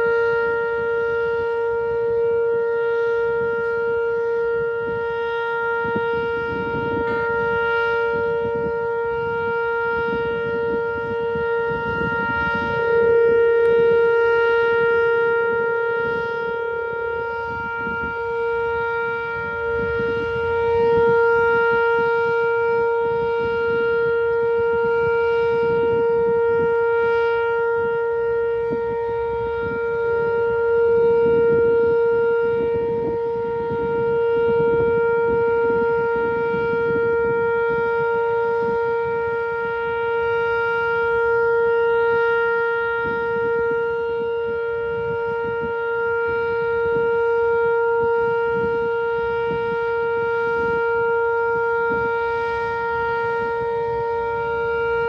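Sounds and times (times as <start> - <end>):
outdoor warning siren steady tone: 0.0 - 55.0.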